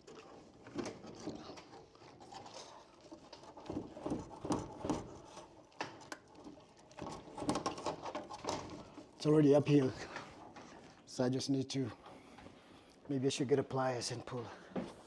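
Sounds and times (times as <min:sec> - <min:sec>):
scraping and rustling of wire: 0:00.0 - 0:13.1.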